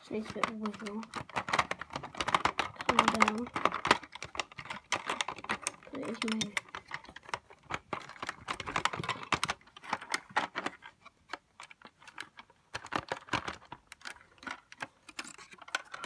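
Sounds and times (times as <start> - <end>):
plastic bricks clicking: 0.0 - 16.0.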